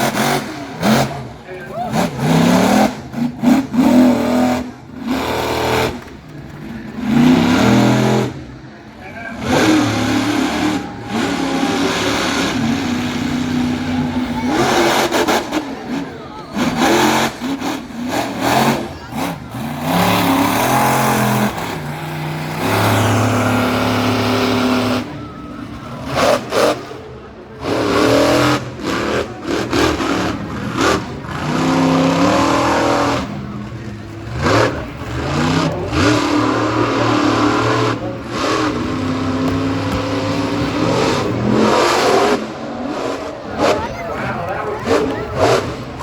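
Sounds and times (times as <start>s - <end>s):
monster truck engines revving: 0.0s - 46.0s.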